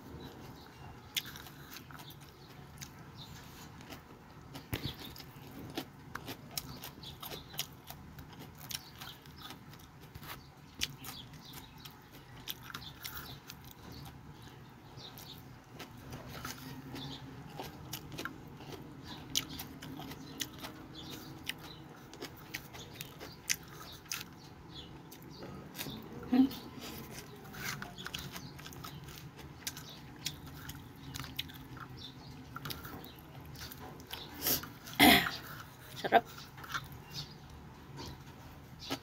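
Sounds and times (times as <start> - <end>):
person chewing crunchy greens: 0.0 - 39.0.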